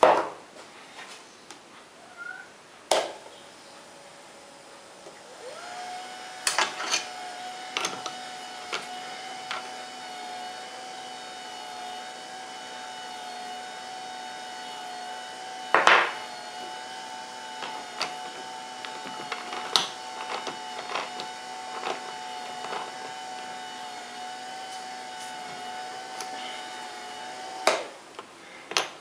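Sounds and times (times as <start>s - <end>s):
electric motor whine and hum: 3.3s - 28.2s.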